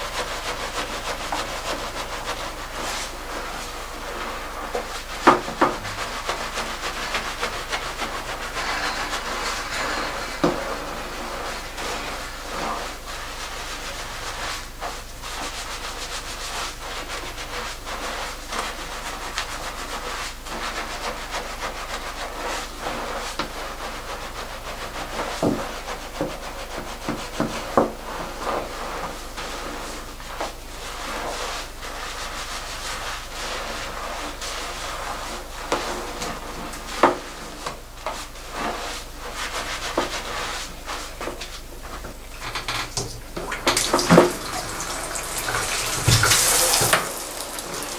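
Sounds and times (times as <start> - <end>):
wet rubbing of shampoo lather: 0.0 - 47.9.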